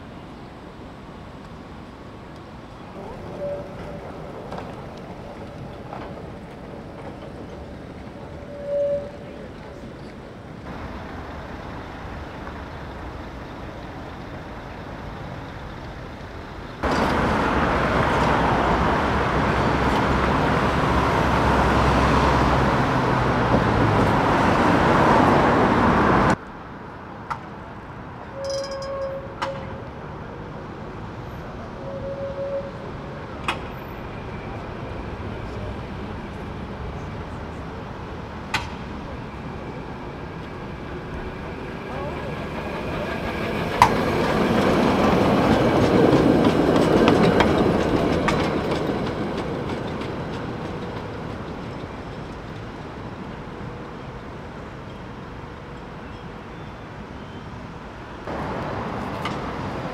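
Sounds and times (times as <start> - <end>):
street traffic: 0.0 - 59.9
tram running: 0.0 - 59.9.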